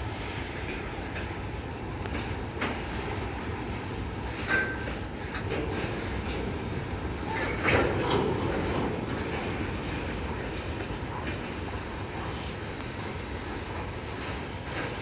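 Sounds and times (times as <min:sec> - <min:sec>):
sharp clacks of train wheels: 0:00.0 - 0:15.0
train wheels rumbling on rail: 0:00.0 - 0:15.0.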